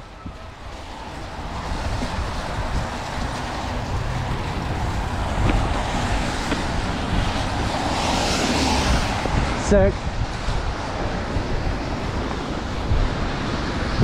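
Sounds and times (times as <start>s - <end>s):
bike tyres on muddy trail: 0.0s - 14.0s
wind noise: 0.0s - 14.0s.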